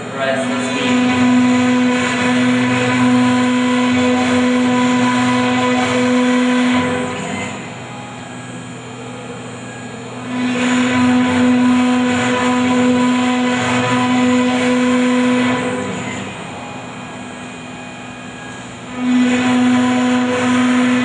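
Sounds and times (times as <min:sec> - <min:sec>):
router spindle whining: 0:00.0 - 0:21.0.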